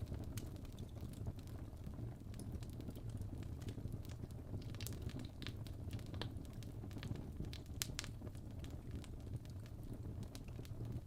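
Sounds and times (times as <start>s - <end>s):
fire crackling and popping: 0.0s - 11.0s
low rumble of flames: 0.0s - 11.0s.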